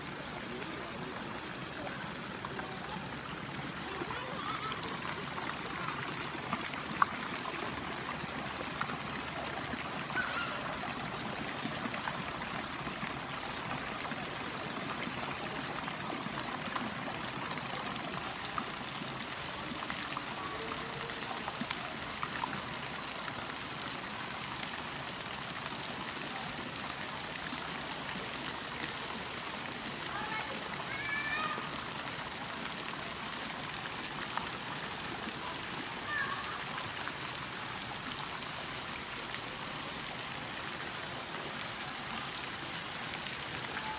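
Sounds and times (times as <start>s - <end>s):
fountain splashing into pool: 0.0s - 43.9s.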